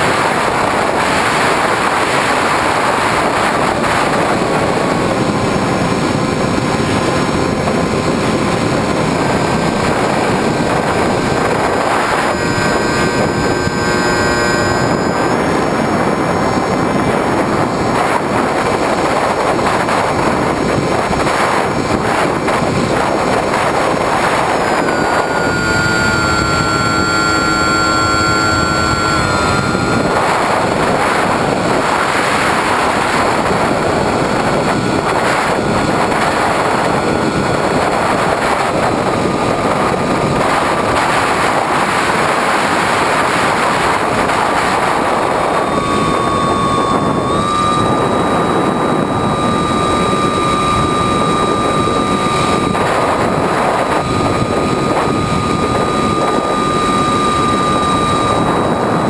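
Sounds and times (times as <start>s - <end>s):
electric motor whine: 0.0s - 59.0s
propeller noise: 0.0s - 59.0s
rushing wind: 0.0s - 59.0s.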